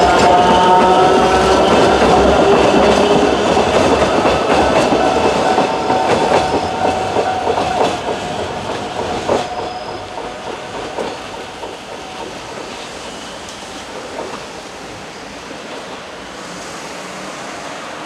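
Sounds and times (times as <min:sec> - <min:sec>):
train wheels clacking over rail joints: 0:00.0 - 0:16.1.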